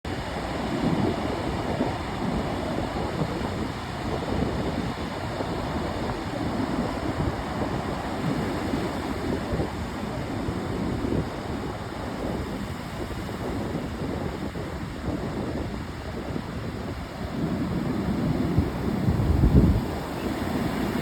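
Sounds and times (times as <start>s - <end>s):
ocean surf washing in: 0.1s - 21.0s
wind buffeting microphone: 0.1s - 21.0s.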